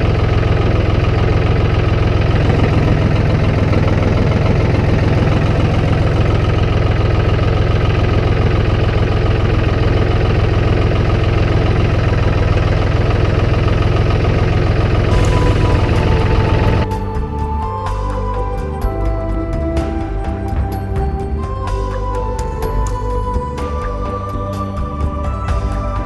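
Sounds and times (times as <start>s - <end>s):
vehicle engine humming: 0.3s - 26.0s.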